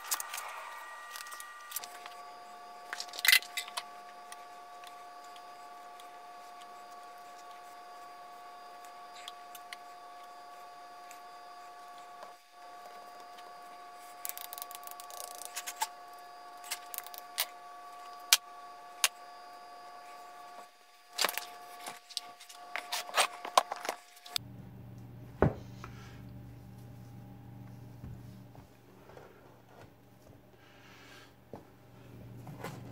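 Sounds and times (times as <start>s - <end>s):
steady high hum: 0.0s - 32.9s.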